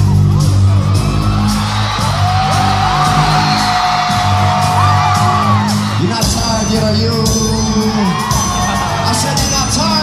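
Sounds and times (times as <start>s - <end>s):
crowd whooping and yelling: 0.0s - 10.0s
hip-hop beat over pa: 0.0s - 10.0s.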